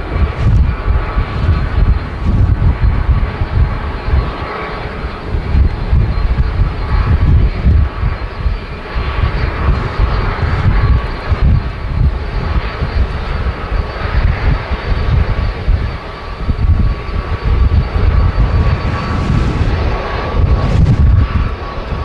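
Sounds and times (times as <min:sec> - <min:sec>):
jet engine high whine: 0:00.0 - 0:22.0
jet engines low rumble: 0:00.0 - 0:22.0.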